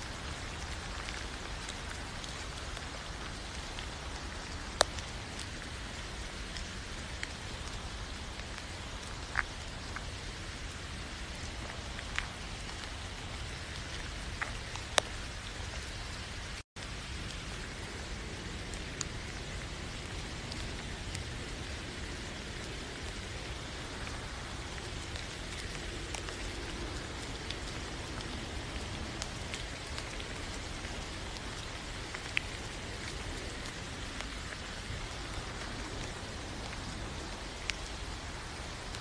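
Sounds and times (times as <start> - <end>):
raindrops ticking: 0.0 - 39.0
steady rain: 0.0 - 39.0.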